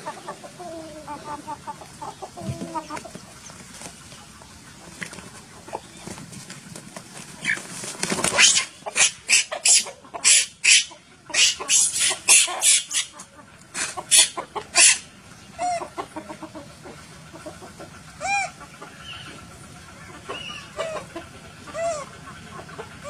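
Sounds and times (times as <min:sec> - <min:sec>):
rooster clucking and squawking: 0:00.0 - 0:06.4, 0:07.1 - 0:23.0.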